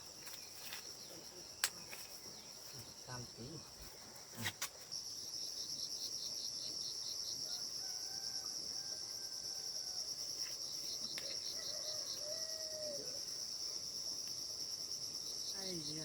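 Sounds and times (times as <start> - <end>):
crickets chirring: 0.0 - 16.0
insect rapid pulsing chirp: 0.0 - 16.0.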